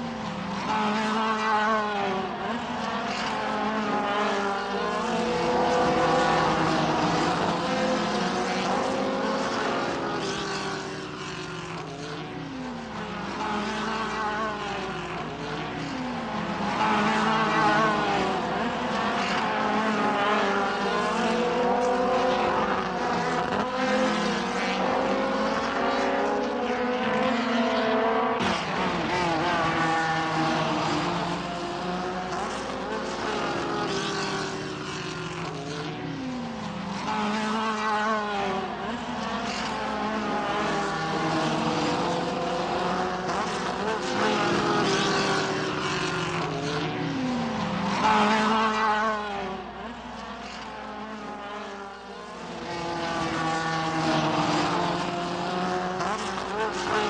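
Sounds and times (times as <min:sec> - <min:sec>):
race car engines at high revs: 0:00.0 - 0:57.0.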